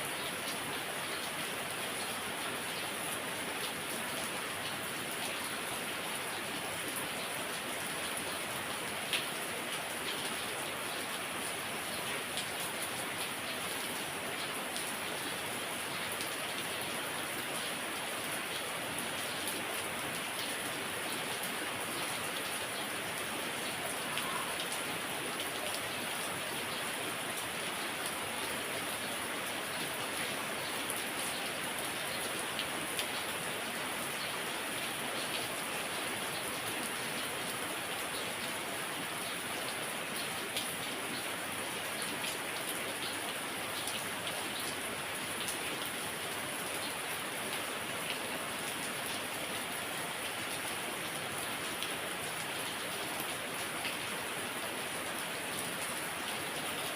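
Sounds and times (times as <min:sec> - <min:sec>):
heavy rain falling: 0:00.0 - 0:56.9
raindrops ticking on surfaces: 0:00.1 - 0:47.6.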